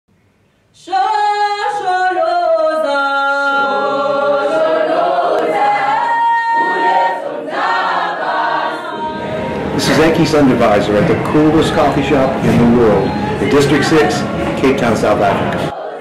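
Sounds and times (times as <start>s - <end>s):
choir singing held chords: 1.2s - 16.0s.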